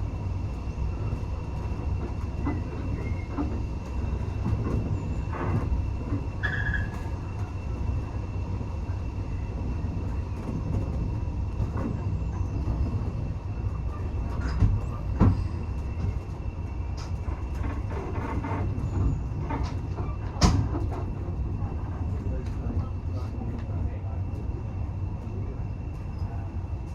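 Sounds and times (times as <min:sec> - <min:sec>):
train carriage rumble: 0:00.0 - 0:26.9.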